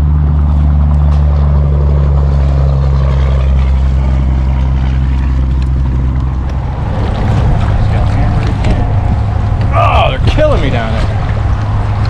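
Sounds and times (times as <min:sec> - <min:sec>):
boat motor humming: 0:00.0 - 0:12.0
water noise: 0:00.0 - 0:12.0
wind: 0:00.0 - 0:12.0.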